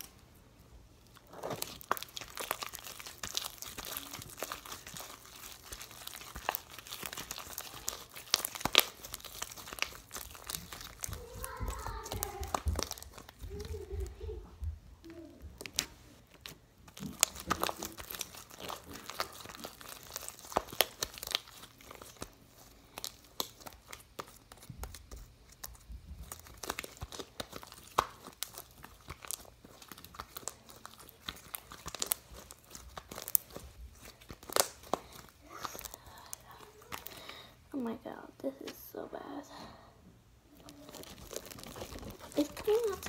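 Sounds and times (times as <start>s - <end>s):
slime kneaded with sticky clicks: 1.0s - 14.4s, 15.1s - 37.4s.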